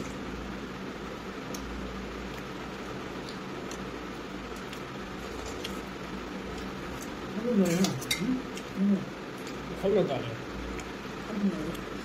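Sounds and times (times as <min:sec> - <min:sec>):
low hum with faint hiss: 0:00.0 - 0:12.0.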